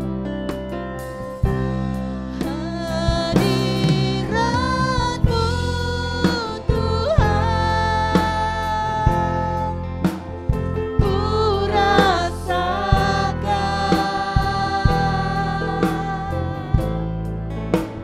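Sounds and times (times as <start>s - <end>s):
bass: 0.0s - 18.0s
drum kit hits: 0.0s - 18.0s.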